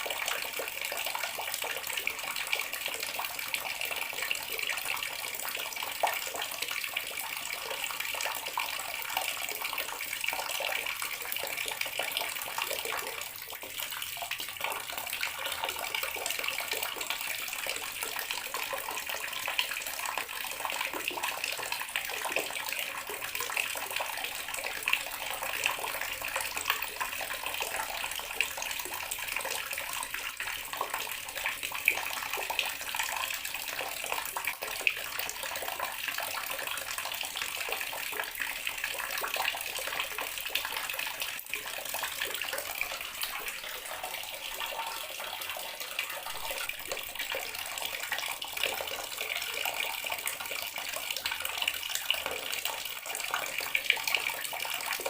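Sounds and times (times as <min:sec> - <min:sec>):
water tap running into basin: 0:00.0 - 0:55.0.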